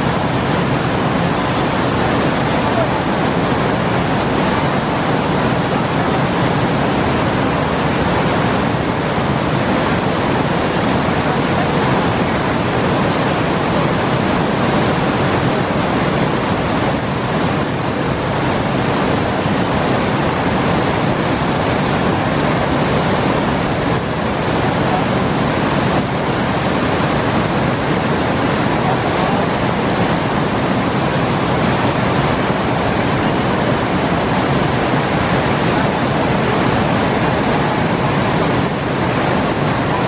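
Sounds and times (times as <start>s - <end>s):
river rapids rushing over rocks: 0.0s - 40.0s.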